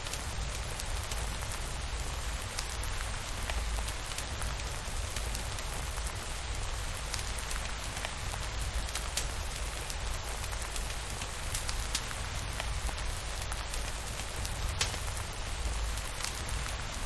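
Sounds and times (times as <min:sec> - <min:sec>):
rain falling: 0:00.0 - 0:17.0
raindrop ticks: 0:00.0 - 0:17.0.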